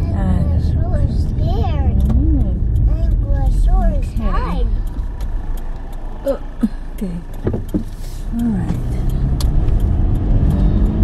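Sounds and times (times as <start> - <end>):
car engine accelerating: 0.0 - 11.0
road rumble: 0.0 - 11.0.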